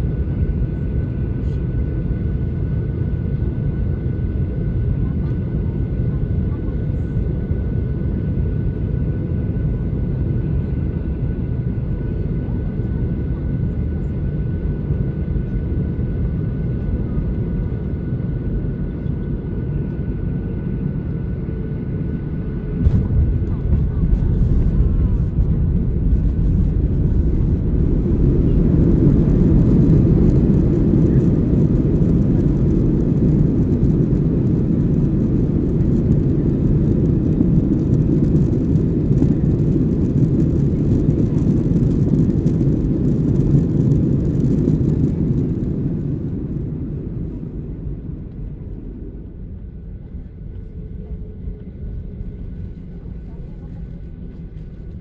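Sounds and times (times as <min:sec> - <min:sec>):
jet cabin engine rumble: 0:00.0 - 0:55.0.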